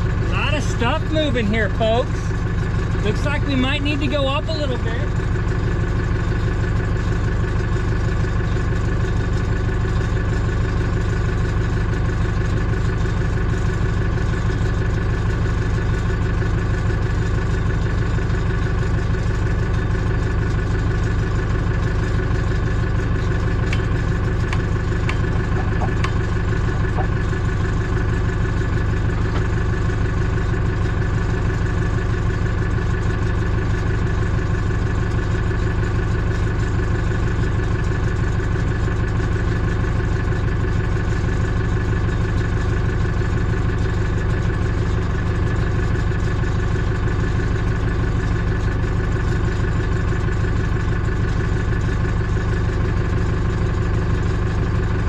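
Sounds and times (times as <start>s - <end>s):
heavy machine engine idling: 0.0s - 55.0s.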